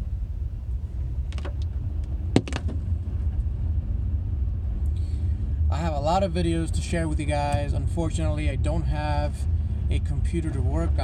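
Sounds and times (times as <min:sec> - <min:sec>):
engine and road noise in car: 0:00.0 - 0:11.0.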